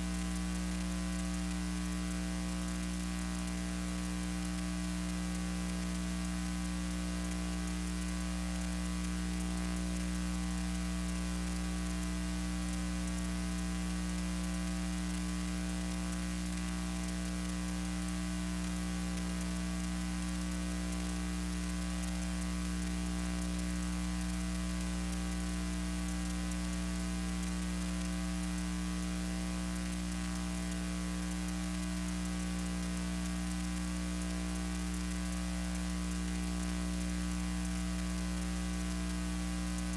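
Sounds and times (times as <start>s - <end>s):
constant hiss: 0.0s - 39.9s
electrical mains hum: 0.0s - 39.9s.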